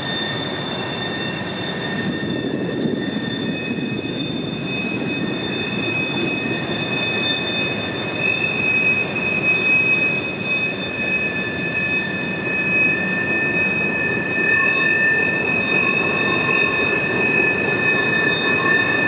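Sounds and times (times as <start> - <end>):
high-pitched wheel squeal: 0.0 - 19.0.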